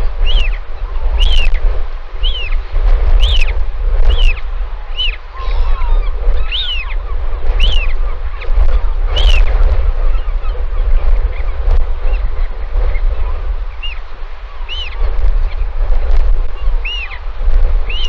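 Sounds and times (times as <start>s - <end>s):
bird calling: 0.0s - 1.6s, 2.2s - 15.7s, 16.5s - 18.0s
wind rumbling on microphone: 0.0s - 18.0s.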